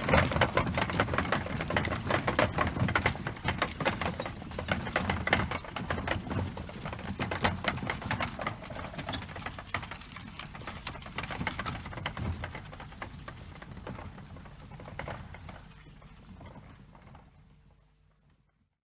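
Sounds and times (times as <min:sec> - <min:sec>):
cart wheels rattling: 0:00.0 - 0:17.4
horse hooves clip-clopping: 0:00.0 - 0:18.6.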